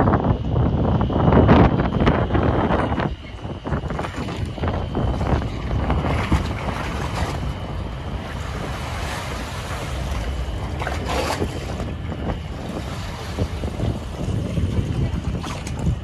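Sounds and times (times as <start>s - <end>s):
faint high whine: 0.0s - 16.0s
ship low rumble: 0.0s - 16.0s
wind buffeting microphone: 0.0s - 16.0s.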